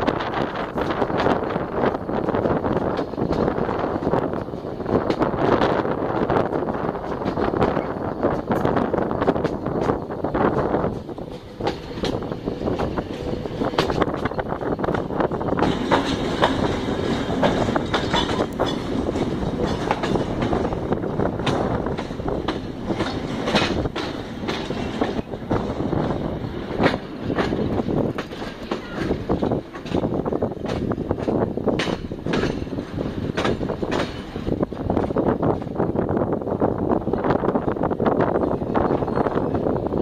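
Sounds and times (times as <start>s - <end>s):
wheels clacking over rail joints: 0.0s - 36.4s, 37.0s - 40.0s
train rumble: 0.0s - 40.0s.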